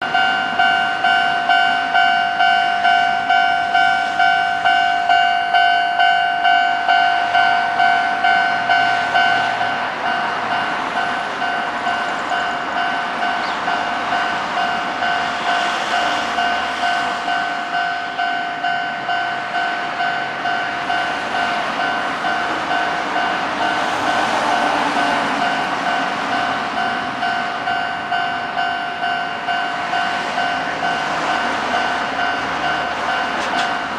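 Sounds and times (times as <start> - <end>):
level-crossing bell ringing: 0.0 - 33.9
passing train rumble: 0.0 - 33.9.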